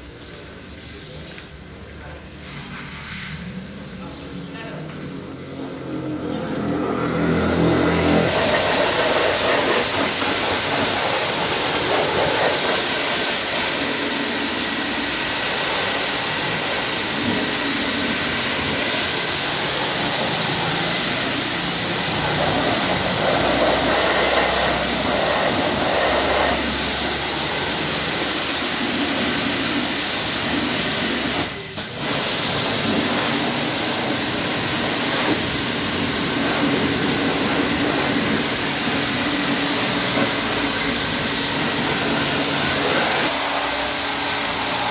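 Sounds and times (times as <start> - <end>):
pressure washer spraying water: 7.1 - 44.9.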